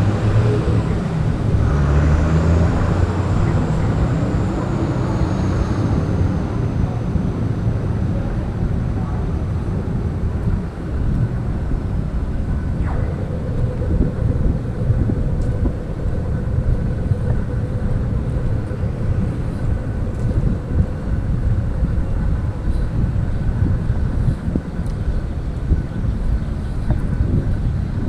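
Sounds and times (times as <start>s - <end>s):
faint steady hum: 0.0s - 28.0s
vehicles: 0.0s - 28.0s
wind on microphone: 0.0s - 28.0s.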